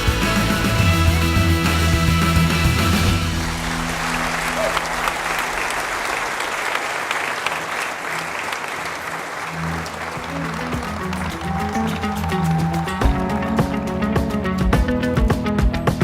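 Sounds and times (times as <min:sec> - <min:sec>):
music playing: 0:00.0 - 0:06.2, 0:09.0 - 0:16.0
audience applauding: 0:00.0 - 0:14.4.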